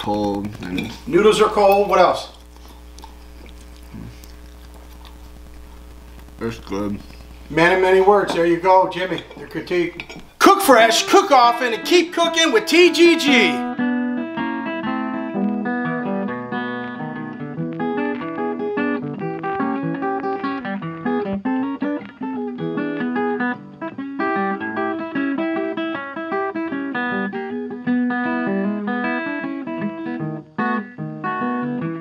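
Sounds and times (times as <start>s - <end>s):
plucked guitar music: 4.6s - 32.0s.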